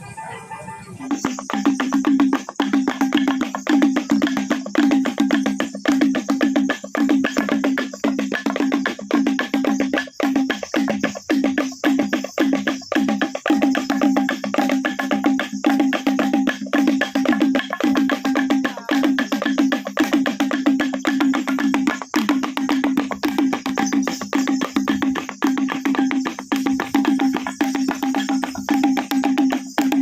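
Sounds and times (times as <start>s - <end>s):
sharp percussive notes: 1.1s - 30.0s.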